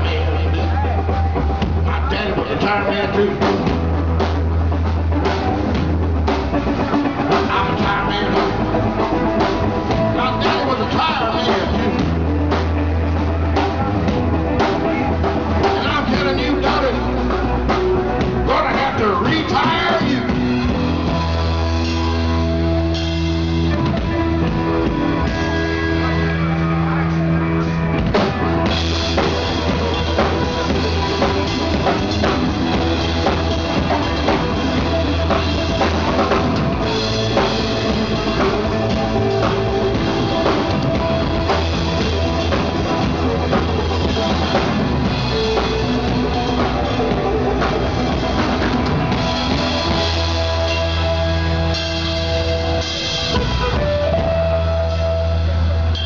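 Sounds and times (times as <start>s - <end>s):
drum kit: 0.0s - 56.0s
rock band playing: 0.0s - 56.0s.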